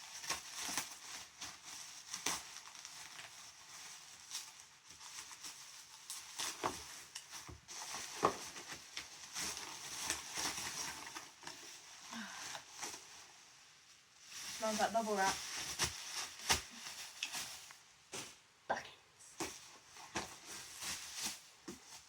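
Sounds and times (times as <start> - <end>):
bubble wrap crinkling: 0.0 - 18.6, 19.2 - 22.0.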